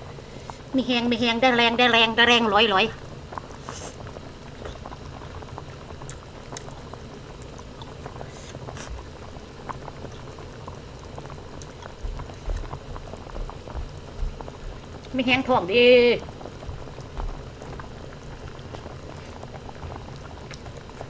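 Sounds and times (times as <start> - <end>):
broth bubbling in pot: 0.0 - 21.0.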